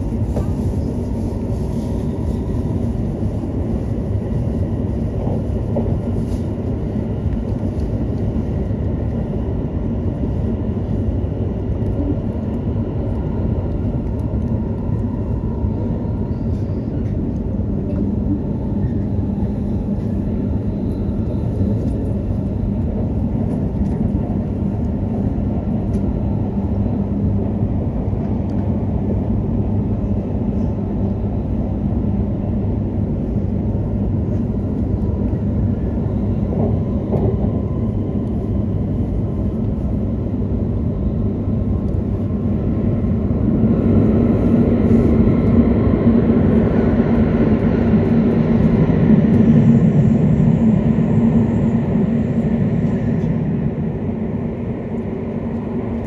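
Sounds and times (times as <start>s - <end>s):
train cabin low rumble: 0.0s - 56.0s.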